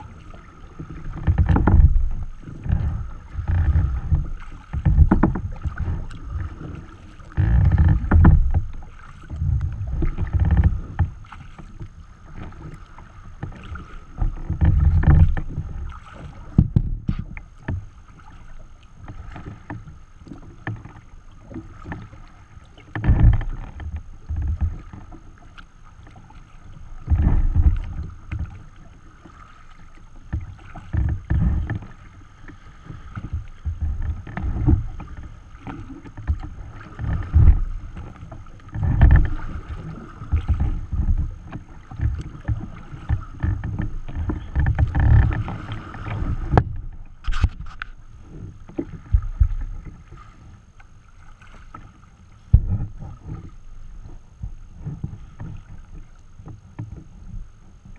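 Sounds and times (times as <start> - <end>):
water splashing against kayak hull: 0.0 - 57.9.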